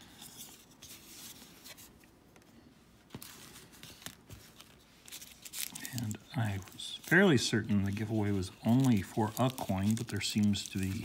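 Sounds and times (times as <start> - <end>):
paper card rustling: 0.0 - 11.0.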